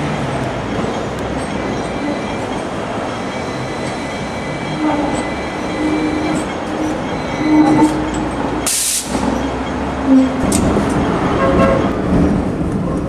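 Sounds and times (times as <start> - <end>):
steel wheels rumbling on rail: 0.0 - 13.0
tram low hum: 0.0 - 13.0.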